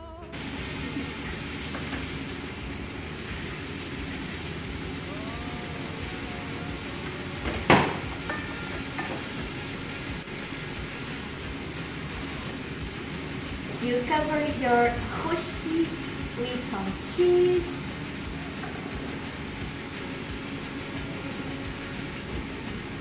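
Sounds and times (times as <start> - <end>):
food sizzling in frying pan: 0.3 - 23.0.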